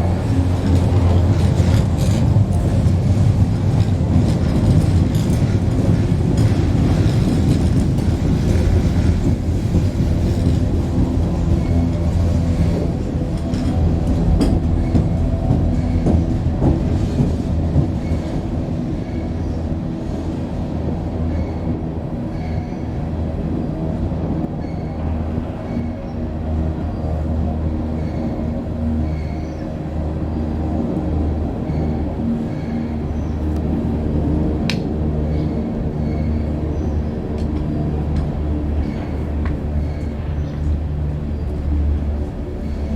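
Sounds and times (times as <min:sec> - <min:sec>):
railway bridge low drone: 0:00.0 - 0:42.9.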